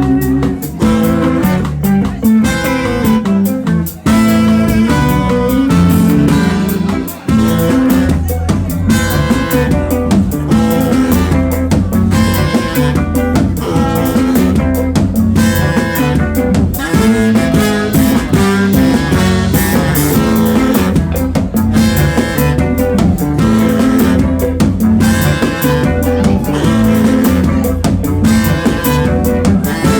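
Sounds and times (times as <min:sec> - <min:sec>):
drum kit: 0:00.0 - 0:29.9
guitar: 0:00.0 - 0:29.9
held pitched notes: 0:00.0 - 0:29.9
live band playing: 0:00.0 - 0:29.9.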